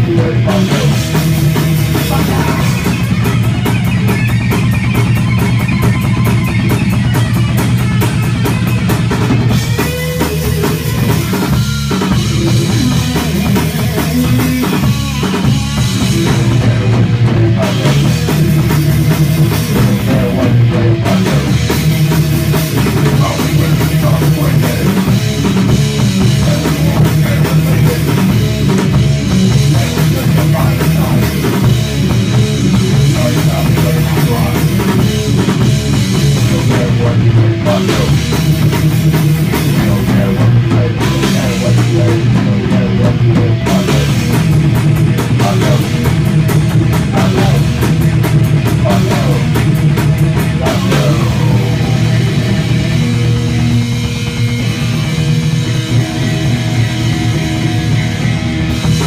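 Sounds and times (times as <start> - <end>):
distorted electric guitar: 0.0 - 59.0
drum kit with cymbals: 0.0 - 59.0
electric bass: 0.0 - 59.0.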